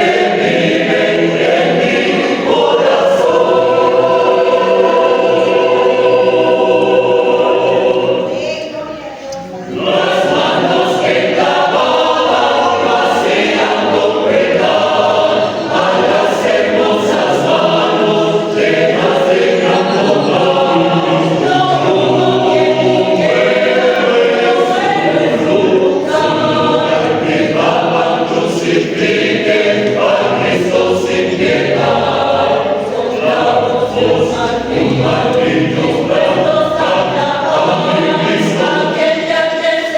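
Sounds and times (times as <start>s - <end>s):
choir singing chords: 0.0s - 39.9s.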